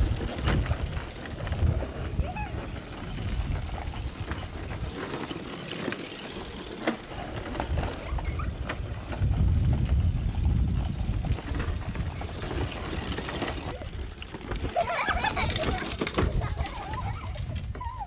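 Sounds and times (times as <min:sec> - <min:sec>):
plastic wheels rumbling on asphalt: 0:00.0 - 0:18.0.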